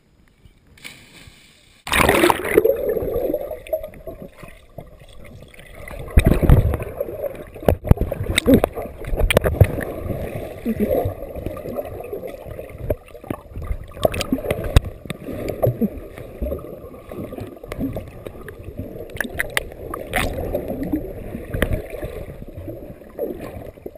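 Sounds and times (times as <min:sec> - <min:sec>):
underwater gurgling rumble: 0:01.9 - 0:23.9.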